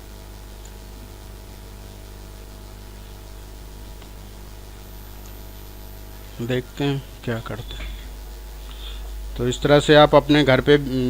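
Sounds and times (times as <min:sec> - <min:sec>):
even hiss: 0:00.0 - 0:11.0
steady low hum: 0:00.0 - 0:11.0.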